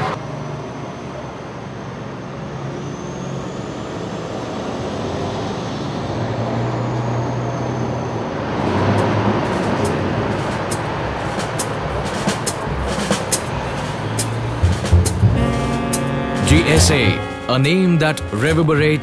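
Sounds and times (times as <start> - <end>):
dump truck diesel engine hum: 0.0 - 19.0.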